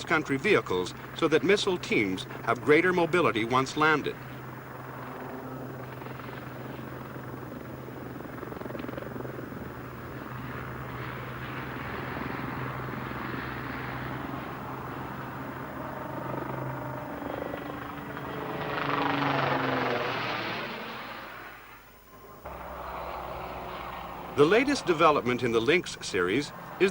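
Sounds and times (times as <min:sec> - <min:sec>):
helicopter rotor and engine: 0:00.0 - 0:21.4, 0:22.4 - 0:26.9.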